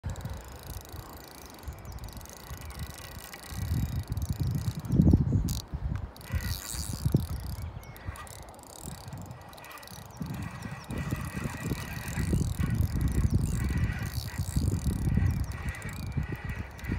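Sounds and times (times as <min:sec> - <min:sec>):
fishing reel ratcheting: 0:00.0 - 0:16.9.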